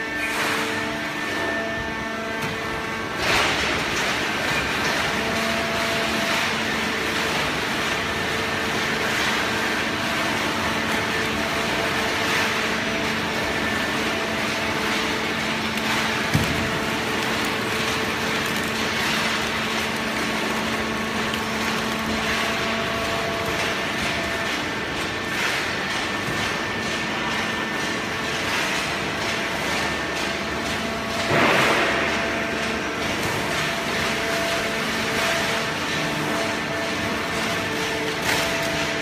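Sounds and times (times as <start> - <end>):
hydraulic press machine hum: 0.0 - 39.0.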